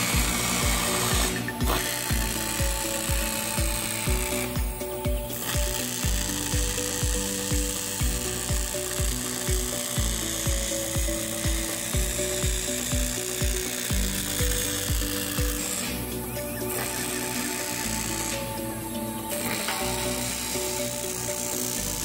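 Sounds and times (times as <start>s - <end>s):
background music with steady beat: 0.0s - 22.0s
welding arc hiss and buzz: 0.0s - 22.0s.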